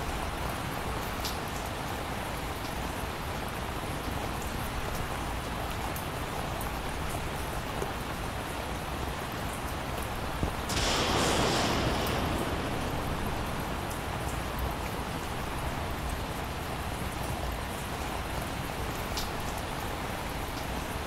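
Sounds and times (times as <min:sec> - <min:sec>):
heavy rainfall hiss: 0:00.0 - 0:21.0.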